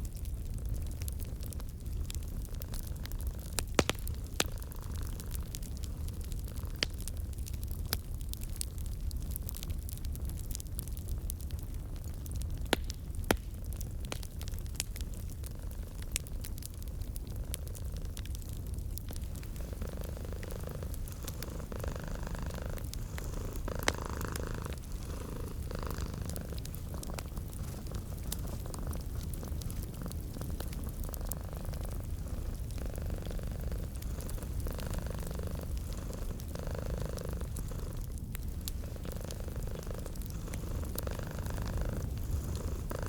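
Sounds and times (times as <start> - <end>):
wood fire crackling: 0.0 - 43.0
cat purring: 0.7 - 7.6, 15.0 - 43.0.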